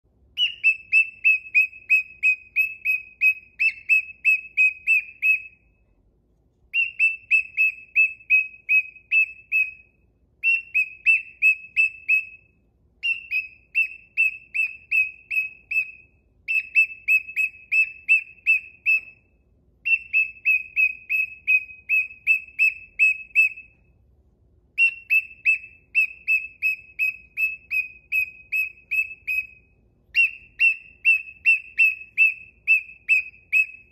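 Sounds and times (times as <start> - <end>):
cockatiel whistled chirps: 0.3 - 5.9, 6.7 - 24.0, 24.7 - 33.9.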